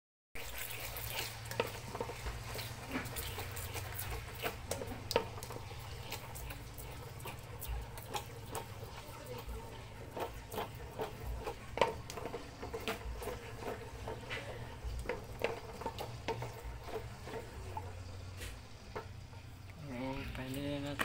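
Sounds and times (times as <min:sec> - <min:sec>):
wooden spoon scraping metal pot: 0:00.4 - 0:21.0.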